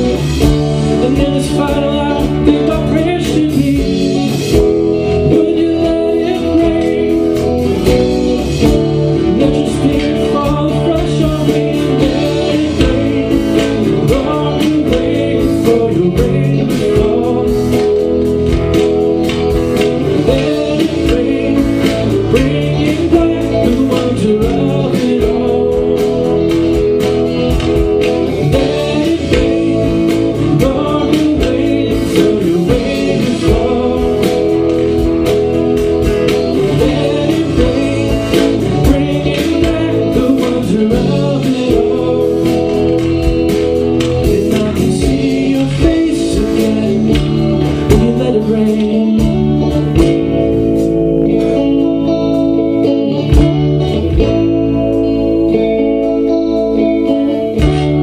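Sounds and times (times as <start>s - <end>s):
person singing: 0.0s - 18.9s, 19.7s - 54.5s
drum kit: 0.0s - 58.0s
electric guitars: 0.0s - 58.0s.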